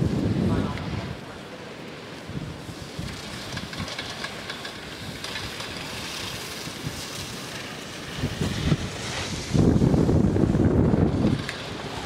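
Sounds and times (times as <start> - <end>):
wind noise on microphone: 0.0 - 1.3, 2.2 - 12.0.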